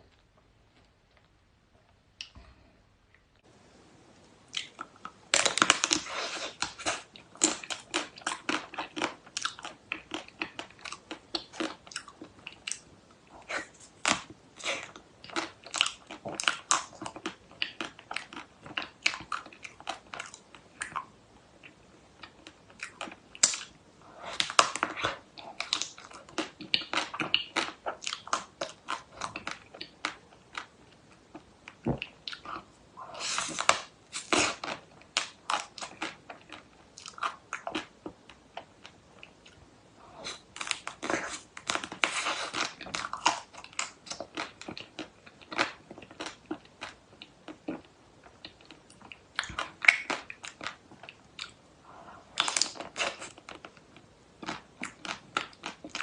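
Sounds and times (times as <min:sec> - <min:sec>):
chewing and crunching food: 0:04.5 - 0:56.0.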